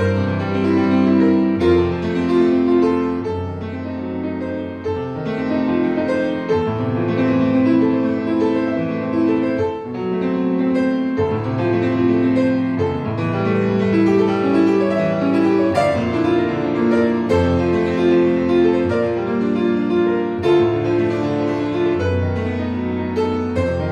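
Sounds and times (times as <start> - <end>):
grand piano playing: 0.0 - 23.9.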